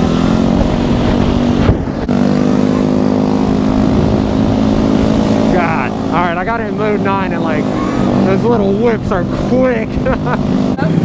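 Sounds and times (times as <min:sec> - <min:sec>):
scooter engines droning: 0:00.0 - 0:11.0
wind rumble on microphone: 0:00.0 - 0:11.0.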